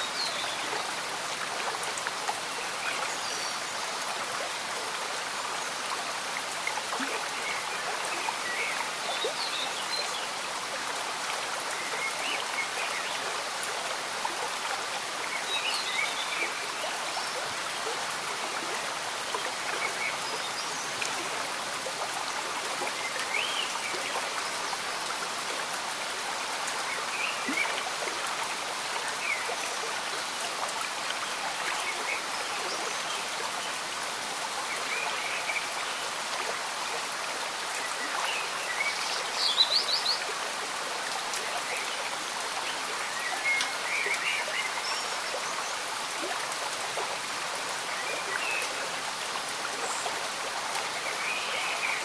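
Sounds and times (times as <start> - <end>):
gentle rain: 0.0 - 52.0.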